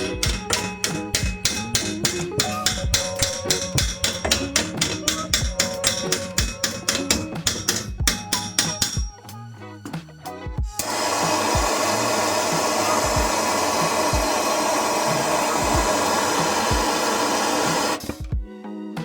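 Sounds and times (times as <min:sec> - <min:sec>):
loud rushing tool noise: 0:00.0 - 0:09.0, 0:10.7 - 0:18.2
background music with beat: 0:00.0 - 0:19.0.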